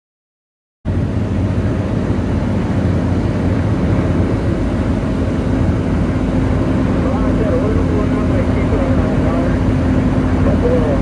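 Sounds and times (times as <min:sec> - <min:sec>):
vehicle engine and tyres rumbling: 0:00.9 - 0:11.0.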